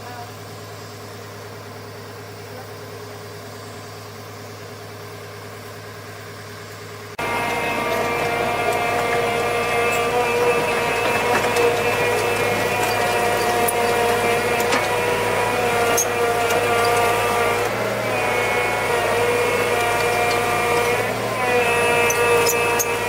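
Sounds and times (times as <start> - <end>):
loud running sound with held tones: 0.0 - 23.0
motor idling drone: 0.0 - 23.0.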